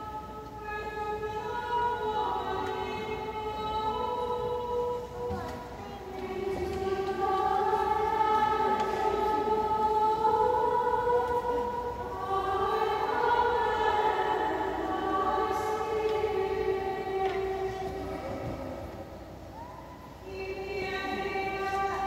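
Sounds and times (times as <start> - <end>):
choir singing chant in church: 0.0 - 22.0.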